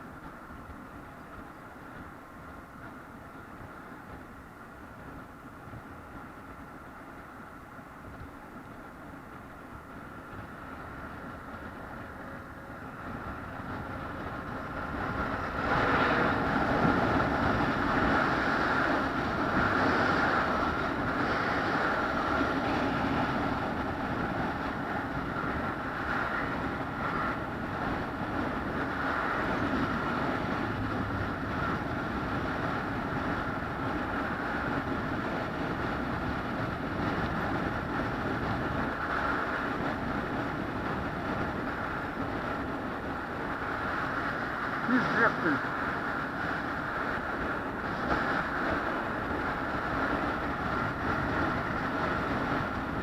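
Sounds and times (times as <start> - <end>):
vehicle running noise: 0.0 - 53.0.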